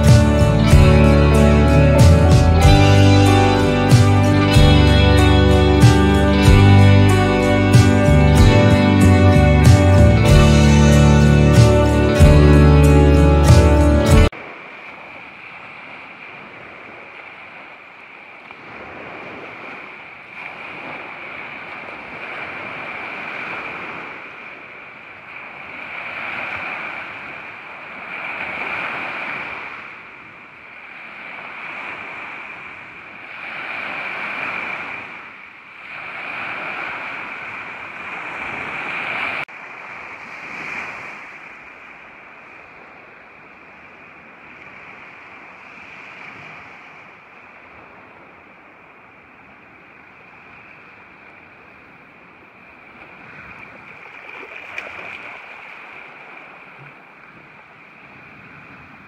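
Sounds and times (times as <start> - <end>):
waves lapping at shoreline: 0.0 - 59.0.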